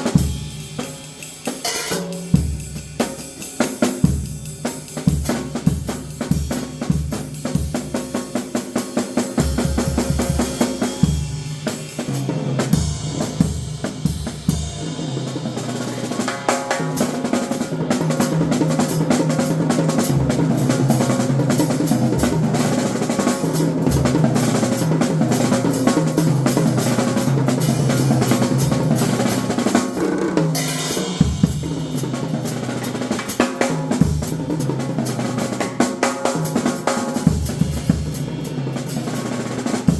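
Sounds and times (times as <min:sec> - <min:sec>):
drum kit played solo: 0:00.0 - 0:39.9.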